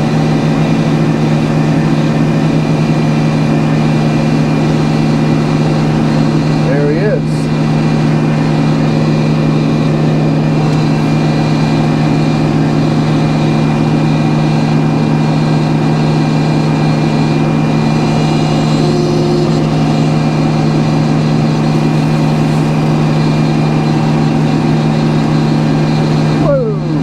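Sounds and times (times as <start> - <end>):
sawmill engine humming: 0.0 - 27.0.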